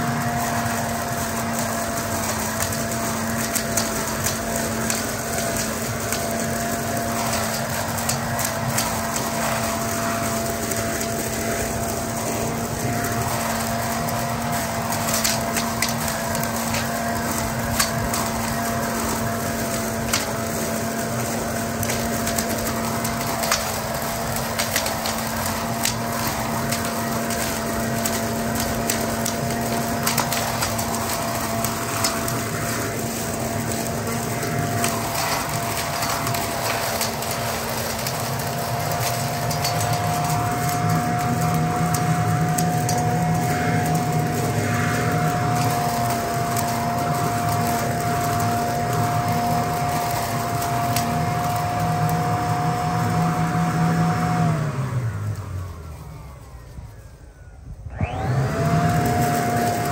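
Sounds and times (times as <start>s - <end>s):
leaf blower vac whining: 0.0s - 59.9s
leaves rattling in impeller: 0.0s - 59.9s.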